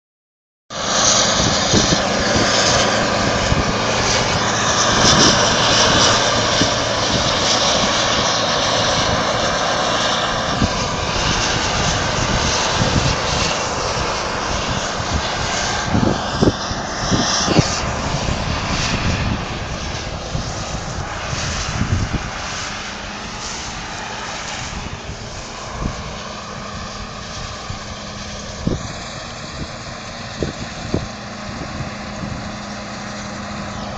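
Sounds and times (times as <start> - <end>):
combine harvester running: 0.7 - 33.9.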